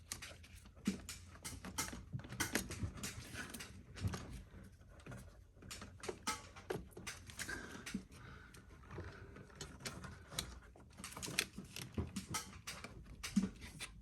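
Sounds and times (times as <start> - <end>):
engine parts clicking and knocking: 0.0 - 14.0.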